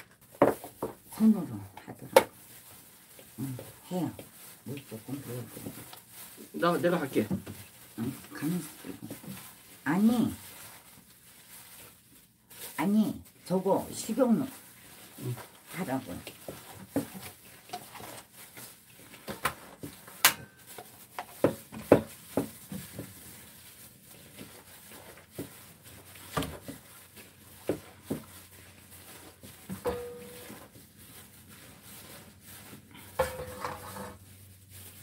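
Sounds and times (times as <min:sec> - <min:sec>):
hands mixing wet batter: 0:00.0 - 0:35.0.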